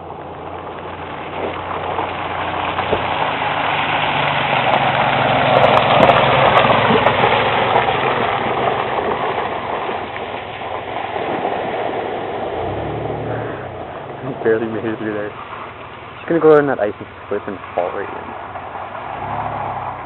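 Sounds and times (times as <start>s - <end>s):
car engine hum: 0.0s - 20.0s
tyres rushing through mud: 0.0s - 20.0s.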